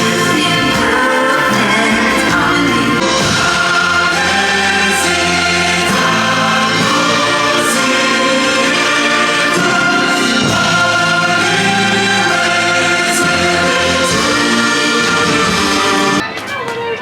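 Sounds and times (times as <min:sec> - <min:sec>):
choir singing: 0:00.0 - 0:16.2
orchestral music: 0:00.0 - 0:16.3.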